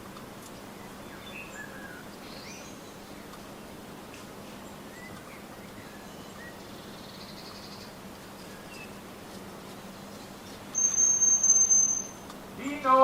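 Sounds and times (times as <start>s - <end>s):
steady outdoor hiss: 0.0s - 13.0s
small birds chirping: 0.3s - 13.0s.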